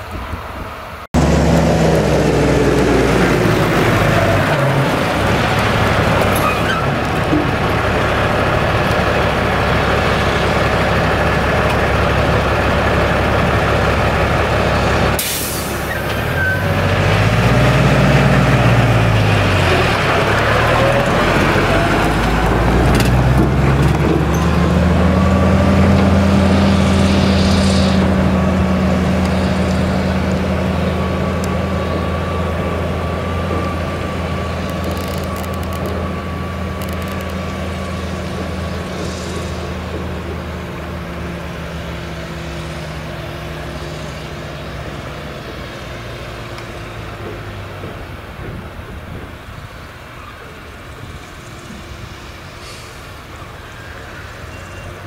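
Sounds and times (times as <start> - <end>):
forage harvester engine droning: 1.2 - 55.0.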